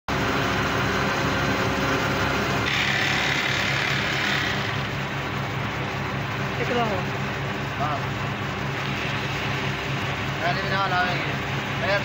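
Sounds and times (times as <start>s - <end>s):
electric machinery drone: 0.1s - 12.0s.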